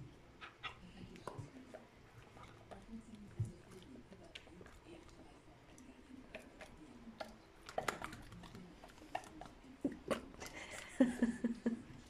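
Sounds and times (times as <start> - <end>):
dog chewing: 0.0 - 10.9.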